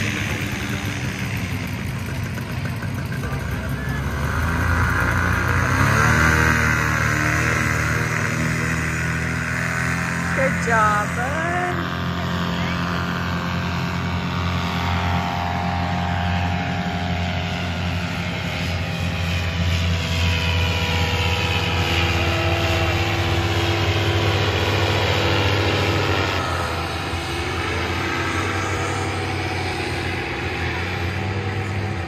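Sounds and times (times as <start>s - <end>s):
paramotor engines droning: 0.0s - 32.0s.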